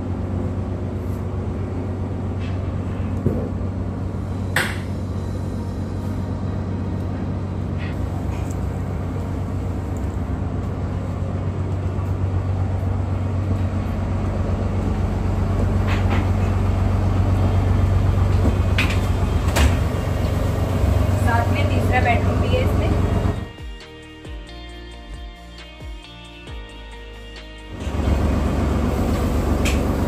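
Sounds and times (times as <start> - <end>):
boat engine humming: 0.0 - 23.5, 27.7 - 30.0.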